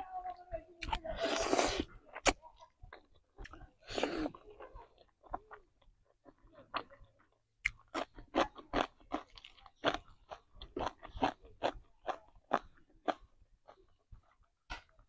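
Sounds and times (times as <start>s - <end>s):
person chewing crunchy vegetable: 0.8s - 14.5s.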